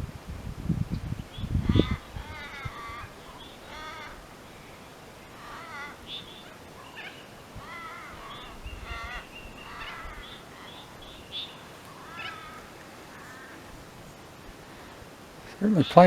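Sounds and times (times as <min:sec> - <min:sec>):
birds wavering calls: 0:01.0 - 0:16.0.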